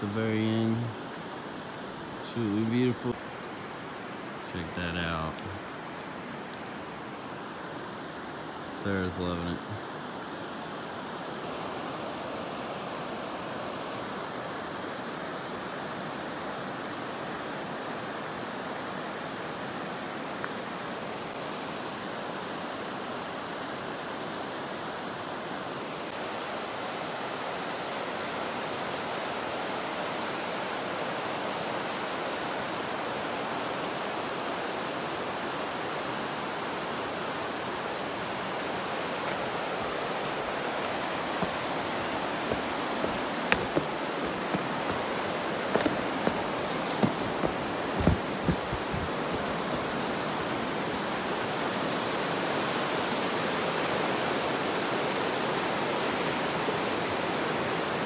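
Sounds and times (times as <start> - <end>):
fast-flowing river rushing: 9.5 - 58.0.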